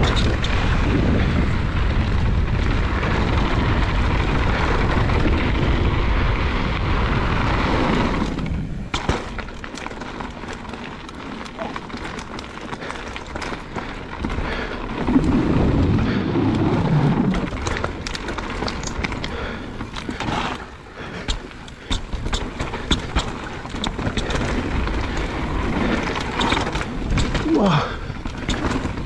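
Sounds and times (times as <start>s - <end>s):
bike clicks and rattles: 0.0s - 29.0s
bike tyres on dirt: 0.0s - 29.0s.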